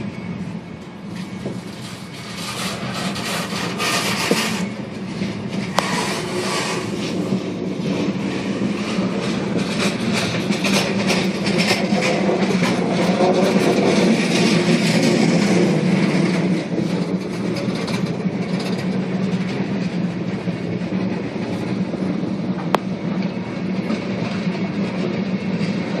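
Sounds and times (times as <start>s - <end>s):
freight train cars rolling past: 0.0s - 26.0s.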